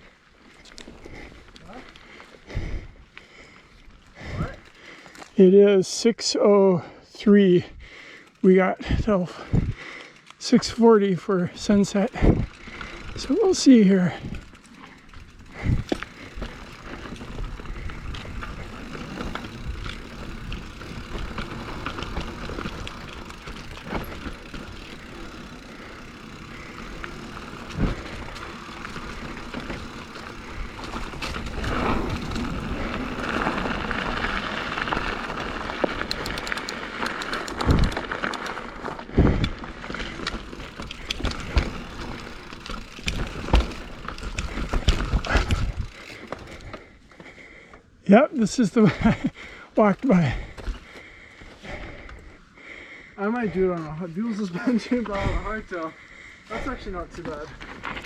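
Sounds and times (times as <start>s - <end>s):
bike tyres rolling over dirt: 0.0s - 6.1s, 7.6s - 58.0s
bike chain and frame rattling: 0.1s - 6.0s, 7.8s - 47.7s, 48.5s - 58.0s.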